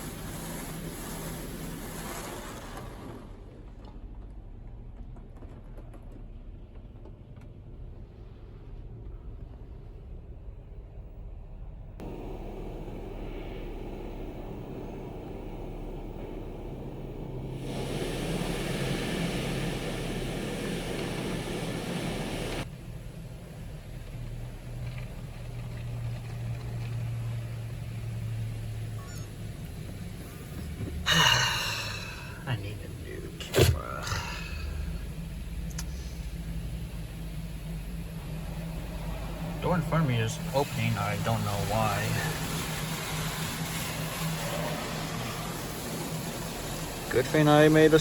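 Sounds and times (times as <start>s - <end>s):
car wash rumble: 0.0s - 5.0s, 11.7s - 48.0s.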